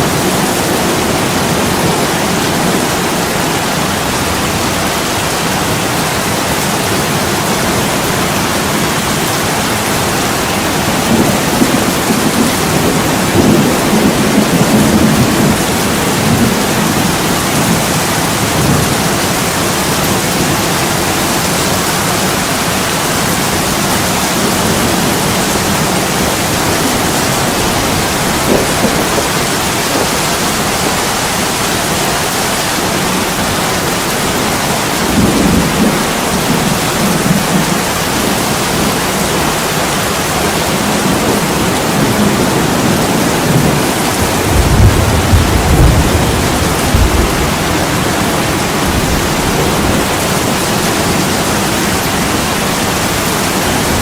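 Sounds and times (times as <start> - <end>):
heavy rain on window glass: 0.0 - 54.0.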